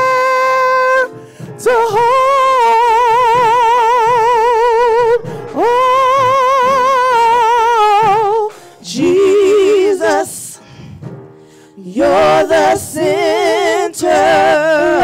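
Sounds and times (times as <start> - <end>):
woman singing gospel: 0.0 - 10.6, 11.8 - 15.0.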